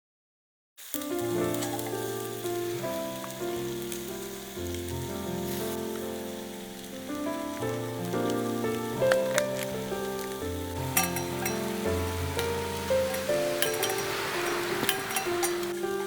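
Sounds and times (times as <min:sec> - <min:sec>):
egg sizzling in a pan: 0:00.8 - 0:16.0
sharp crackles: 0:00.8 - 0:16.0
background music of sustained chords: 0:01.0 - 0:16.0.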